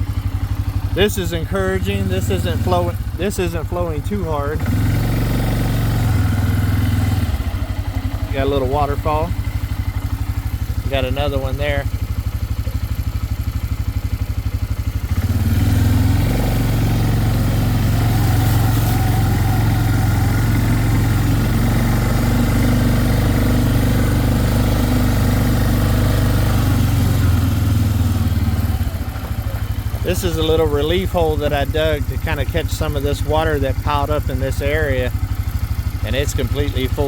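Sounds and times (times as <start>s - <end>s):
atv engine idling and revving: 0.0s - 37.0s.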